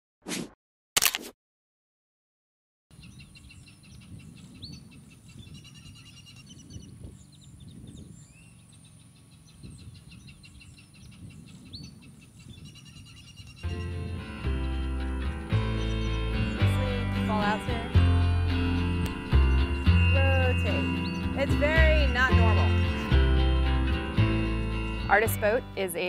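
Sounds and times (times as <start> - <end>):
small birds chirping: 2.9 - 25.4.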